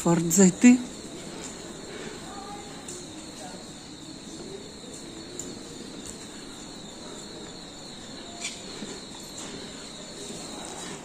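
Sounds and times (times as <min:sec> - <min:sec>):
background hum and murmur: 0:00.0 - 0:11.0
faint high whine: 0:00.0 - 0:11.0.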